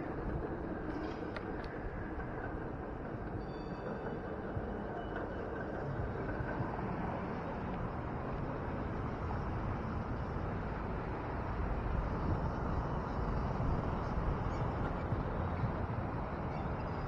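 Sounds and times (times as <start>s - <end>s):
city traffic: 0.0s - 17.0s
wind rumble: 0.0s - 17.0s.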